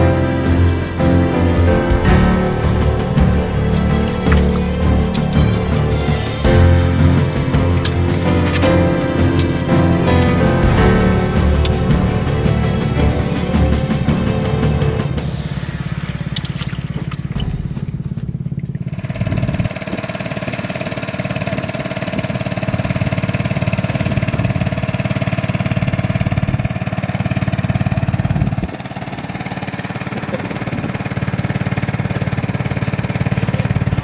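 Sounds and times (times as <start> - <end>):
small boat engine chugging: 0.0 - 34.0.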